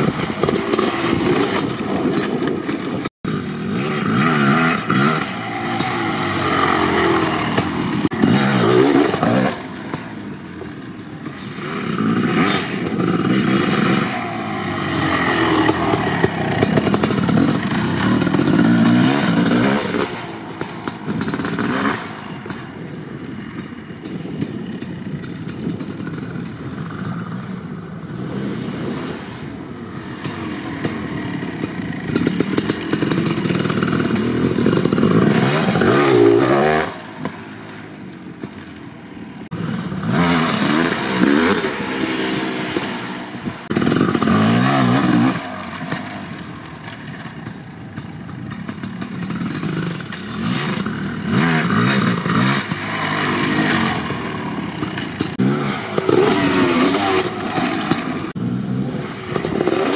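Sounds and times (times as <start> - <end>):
dirt bike engine revving: 0.0 - 10.5, 11.2 - 22.7, 28.1 - 37.7, 39.3 - 59.9.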